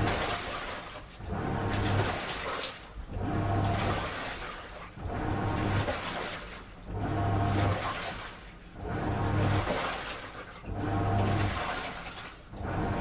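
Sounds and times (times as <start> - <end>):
low motor hum: 0.0 - 2.4, 3.0 - 10.0, 10.6 - 13.0
washing machine drum churning: 0.0 - 13.0
water sloshing: 0.0 - 13.0.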